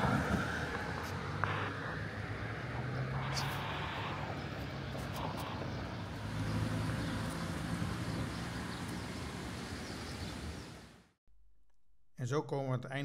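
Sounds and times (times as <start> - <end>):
vehicle engine low hum: 0.0 - 11.1.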